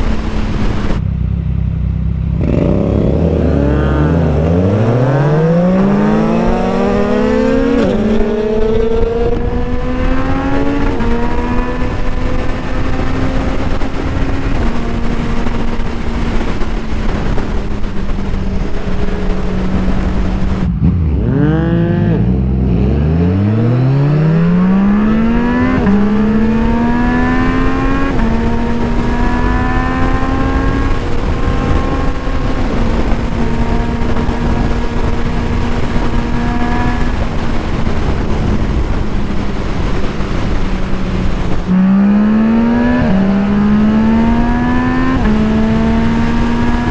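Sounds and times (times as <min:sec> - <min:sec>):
wind noise: 0:00.0 - 0:01.6, 0:02.2 - 0:46.9
motorcycle engine revving: 0:00.0 - 0:46.9.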